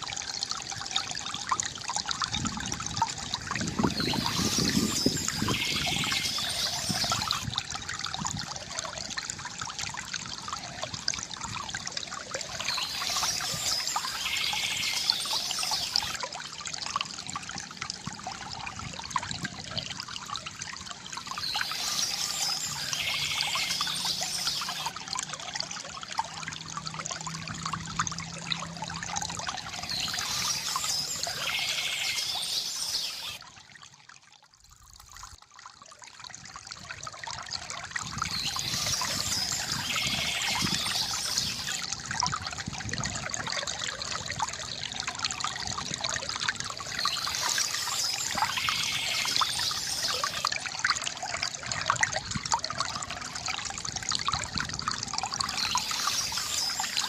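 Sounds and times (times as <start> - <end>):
river water gurgling: 0.0 - 57.0.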